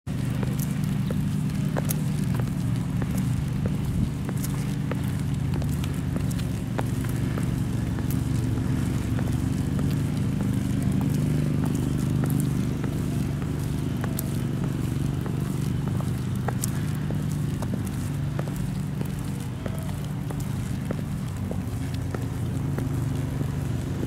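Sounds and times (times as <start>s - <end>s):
high-heeled boots clicking on pavement: 0.1s - 24.0s
steady low hum: 0.1s - 24.0s.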